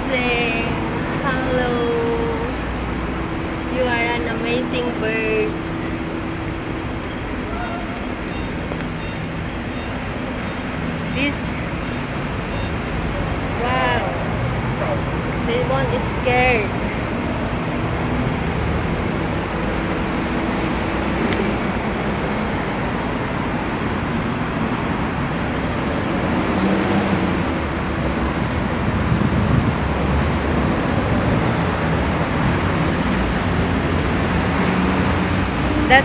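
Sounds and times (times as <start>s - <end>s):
urban road traffic: 0.0s - 36.0s.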